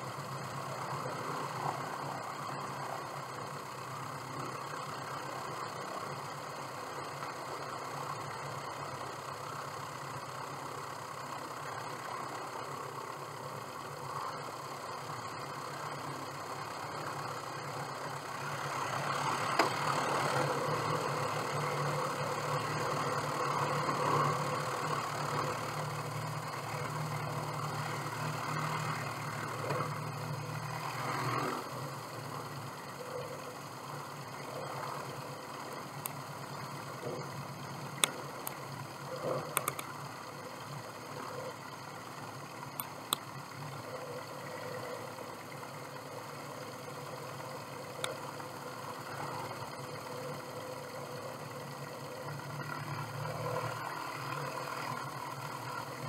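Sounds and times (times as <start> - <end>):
light aircraft engine idling: 0.0 - 56.0.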